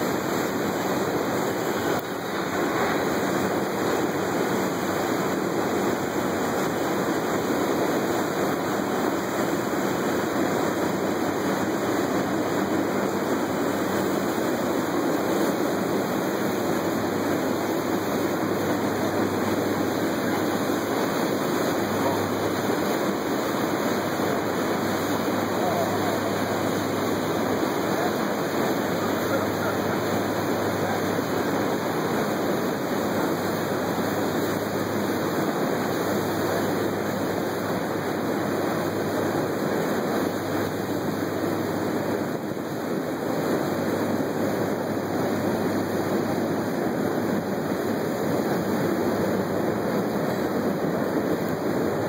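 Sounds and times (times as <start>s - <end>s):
boat engine hum: 0.0s - 52.0s
water rushing: 0.0s - 52.0s.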